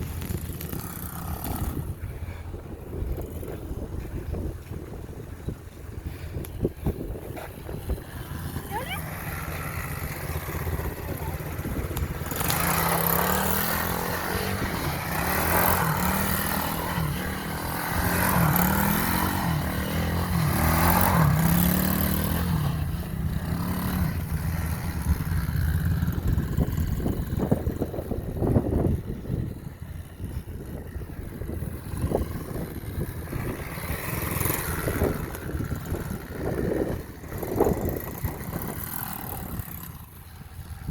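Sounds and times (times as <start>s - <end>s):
pit bike engine revving: 0.0s - 2.3s, 7.4s - 40.9s.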